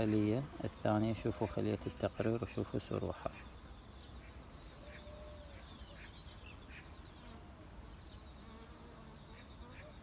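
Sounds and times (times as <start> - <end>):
faint birds chirping: 0.0 - 10.0
honeybees buzzing past: 0.0 - 10.0.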